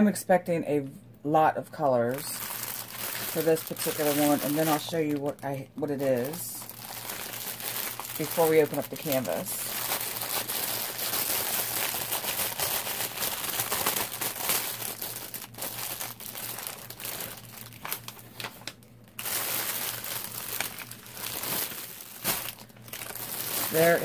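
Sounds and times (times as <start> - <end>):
packaging crinkling and rustling: 2.0 - 24.0.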